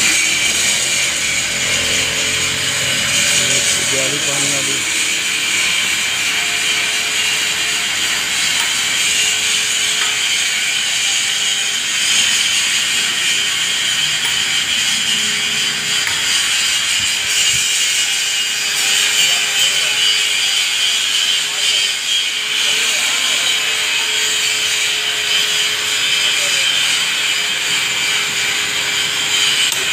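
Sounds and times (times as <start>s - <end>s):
power tool rasping: 0.0s - 29.9s.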